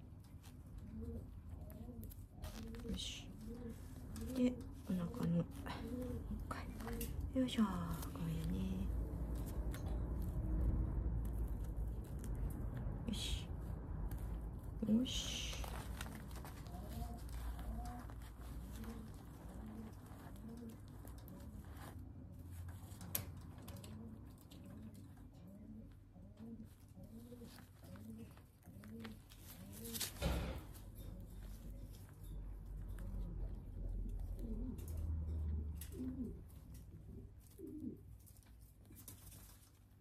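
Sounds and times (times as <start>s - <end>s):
bandage rustling and clicking: 0.0s - 35.3s
pigeon cooing: 0.0s - 39.8s.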